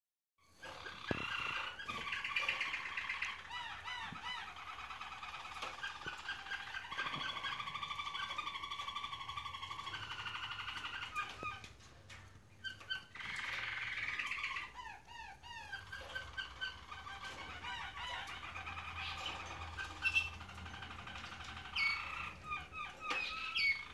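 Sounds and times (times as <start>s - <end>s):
canaries singing rolling trills: 0.4s - 23.9s.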